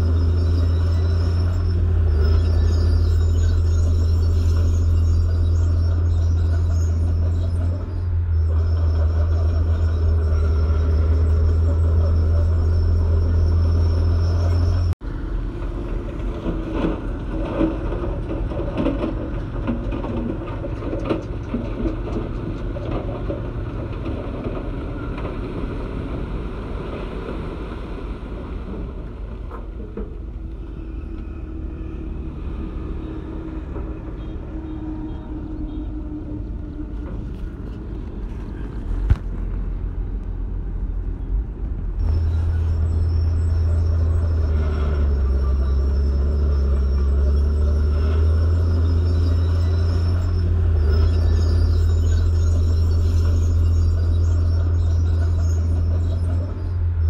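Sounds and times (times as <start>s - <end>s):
dump truck tipping soil and rock: 0.0s - 40.0s, 41.9s - 57.0s
bulldozer diesel engine droning: 0.0s - 57.0s
heavy diesel engines running: 0.0s - 57.0s.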